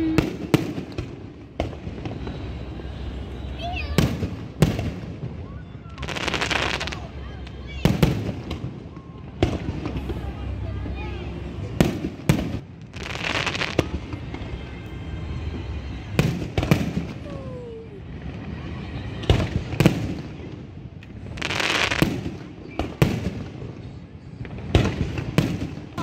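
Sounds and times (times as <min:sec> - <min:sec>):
fireworks bangs: 0:00.0 - 0:26.0
fireworks crackling hiss: 0:00.0 - 0:26.0.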